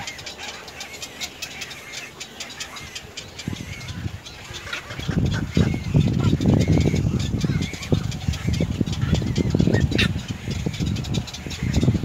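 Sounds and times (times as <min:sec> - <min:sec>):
birds chirping and clicking: 0:00.0 - 0:12.0.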